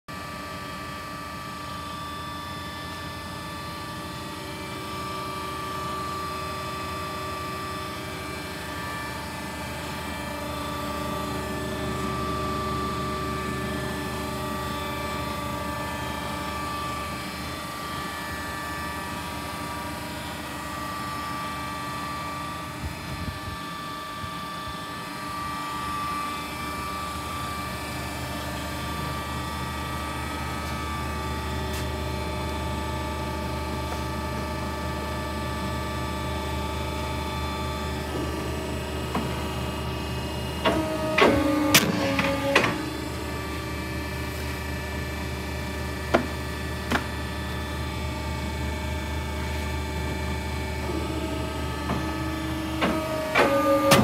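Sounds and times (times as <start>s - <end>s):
machine hum: 1.6s - 54.0s.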